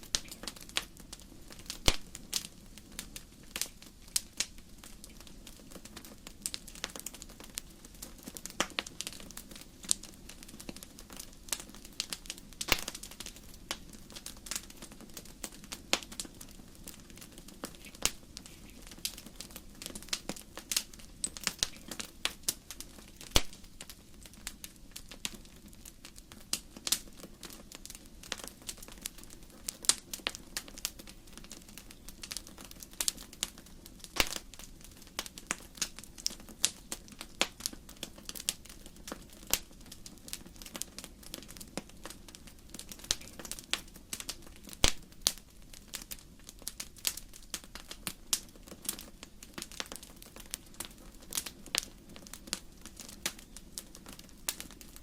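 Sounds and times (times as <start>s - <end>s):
firewood crackling and popping: 0.0s - 55.0s
low rumble of flames: 0.0s - 55.0s.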